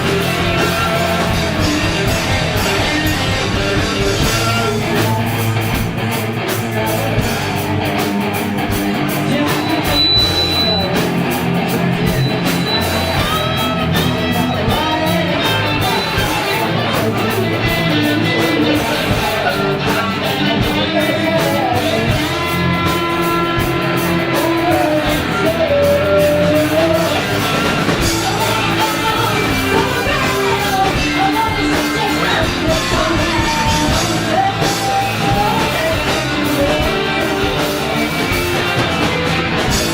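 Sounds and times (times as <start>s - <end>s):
electric guitar: 0.0s - 39.9s
live band playing funky rock: 0.0s - 39.9s.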